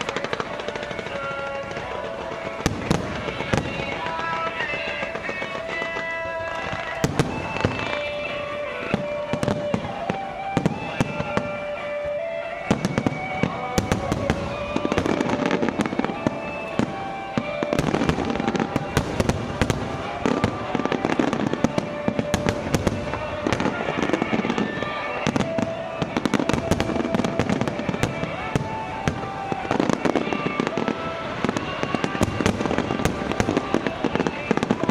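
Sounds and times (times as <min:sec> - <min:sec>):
fireworks bangs and crackles: 0:00.0 - 0:34.9
music: 0:00.0 - 0:34.9.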